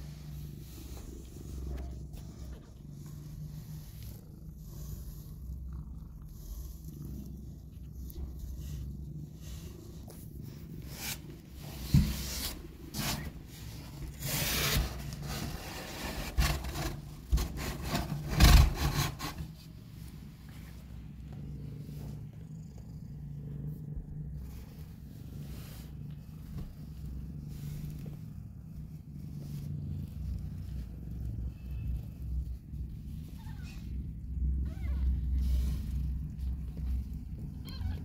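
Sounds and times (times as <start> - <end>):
cat purring: 0.0 - 38.0
rustling and rubbing: 0.0 - 38.0.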